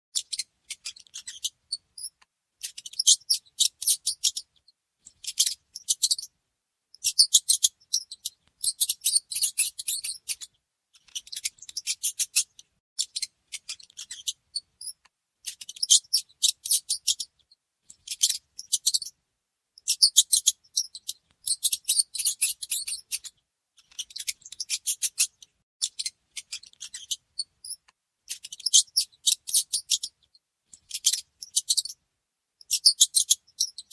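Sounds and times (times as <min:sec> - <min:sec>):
mice chittering and clicking: 0:00.2 - 0:06.3, 0:07.0 - 0:17.3, 0:19.8 - 0:32.0, 0:32.6 - 0:33.9.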